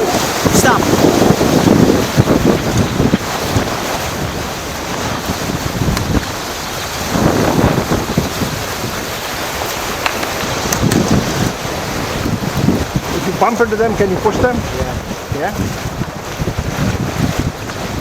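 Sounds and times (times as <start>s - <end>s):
whitewater river rushing: 0.0s - 18.0s
wind buffeting microphone: 0.0s - 18.0s.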